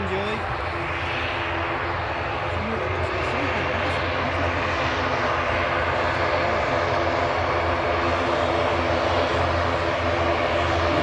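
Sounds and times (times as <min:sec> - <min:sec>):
airliner engines running: 0:00.0 - 0:11.0.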